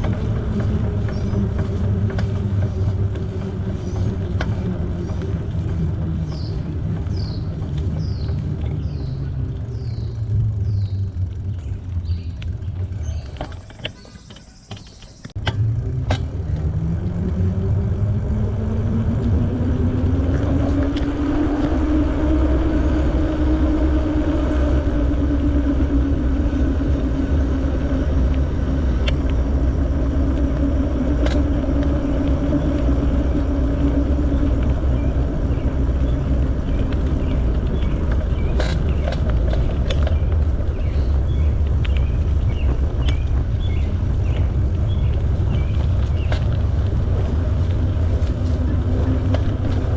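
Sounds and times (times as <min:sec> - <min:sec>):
wind rumble on microphone: 0:00.0 - 0:13.9, 0:15.3 - 0:49.9
bicycle riding hum: 0:00.0 - 0:49.9.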